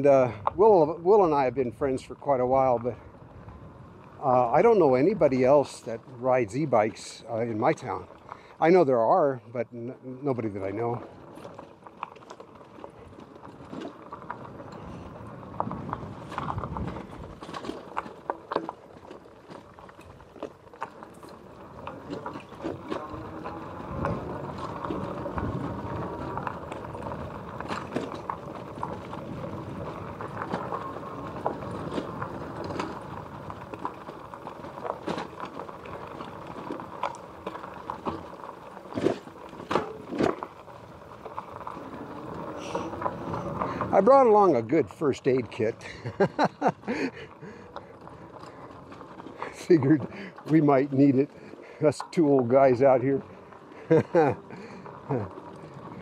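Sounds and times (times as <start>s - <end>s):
tyres rumbling on gravel: 0.0s - 56.0s
bike clicks and rattles: 2.6s - 8.6s, 10.1s - 56.0s.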